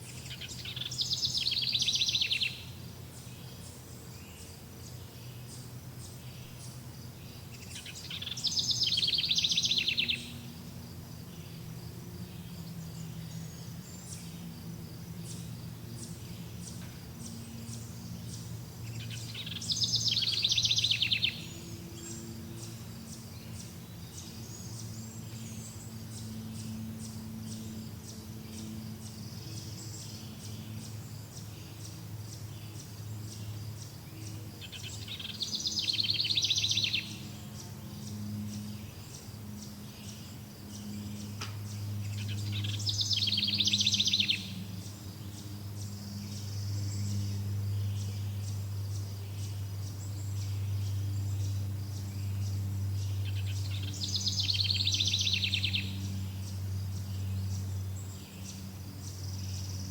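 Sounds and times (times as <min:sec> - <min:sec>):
bird singing loud rapid trill: 0:00.0 - 0:59.9
low background hum: 0:00.0 - 0:59.9.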